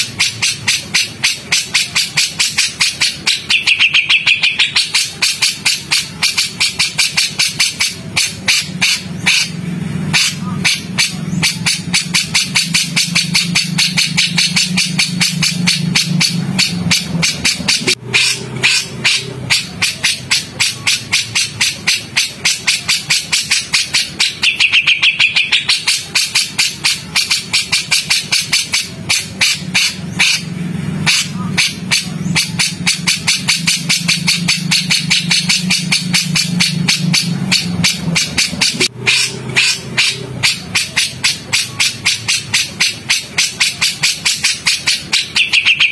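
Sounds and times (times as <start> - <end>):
songbird calling harsh rapid notes: 0.0 - 45.9
steady low hum: 0.0 - 45.9.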